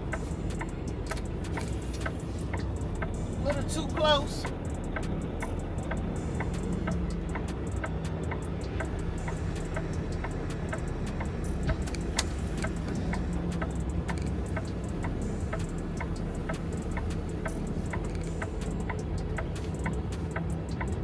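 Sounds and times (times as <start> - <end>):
diesel truck engine running: 0.0 - 21.0
turn signal flasher clicking: 0.0 - 21.0.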